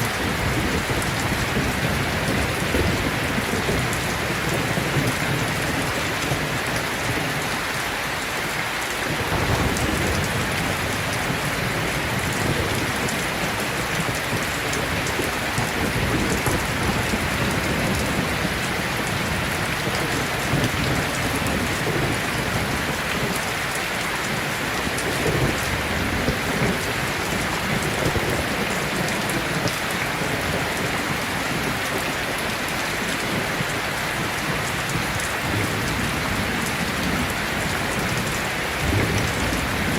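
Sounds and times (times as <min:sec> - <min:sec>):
low rumble of thunder: 0:00.0 - 0:07.8, 0:09.0 - 0:39.9
heavy rain pouring: 0:00.0 - 0:39.9.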